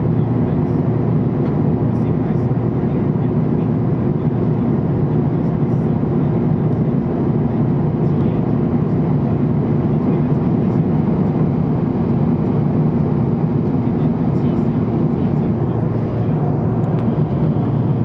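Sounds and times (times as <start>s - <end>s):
jet cabin engine drone: 0.0s - 18.0s.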